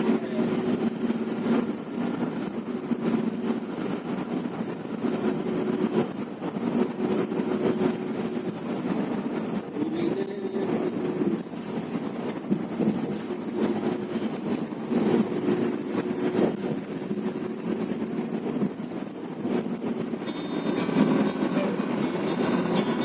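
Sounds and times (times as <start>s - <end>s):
bus engine and road drone: 0.0s - 23.0s.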